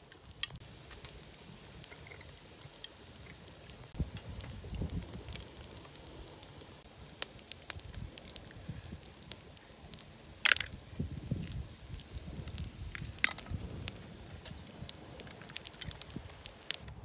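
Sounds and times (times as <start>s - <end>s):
cooking fire crackling: 0.0s - 17.0s
sharp pops of fire: 0.0s - 17.0s.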